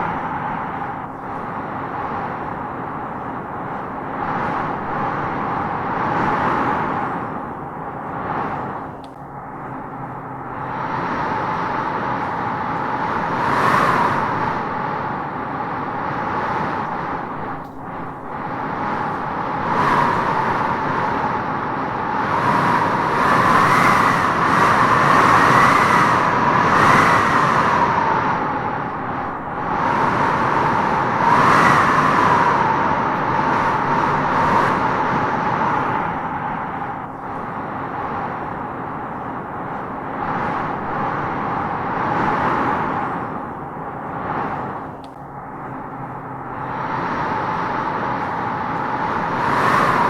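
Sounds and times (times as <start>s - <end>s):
wind gusting through trees: 0.0s - 50.0s.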